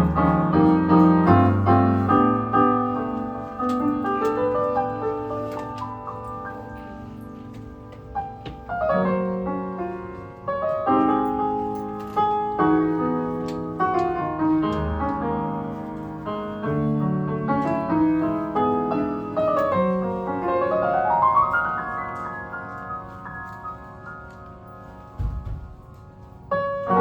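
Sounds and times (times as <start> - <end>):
jazz piano piece: 0.0 - 27.0.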